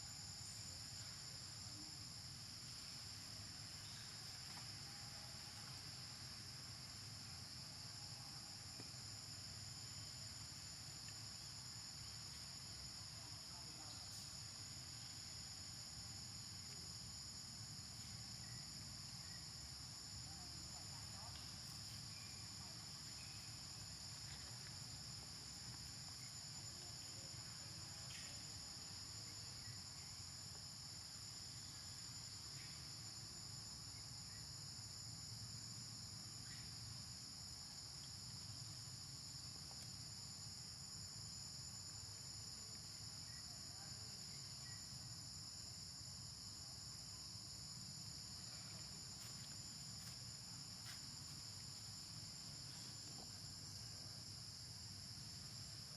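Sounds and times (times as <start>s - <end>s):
insects droning: 0.0s - 55.9s.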